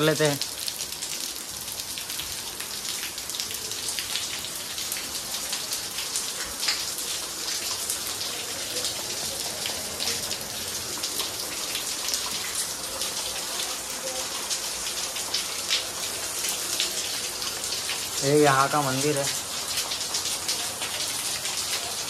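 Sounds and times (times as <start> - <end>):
water dripping onto stone: 0.0 - 22.0.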